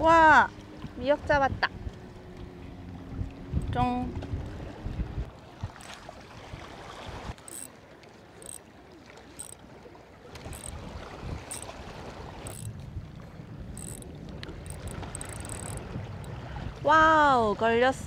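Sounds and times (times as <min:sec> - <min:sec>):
wind on microphone: 0:00.0 - 0:07.4, 0:10.3 - 0:18.0.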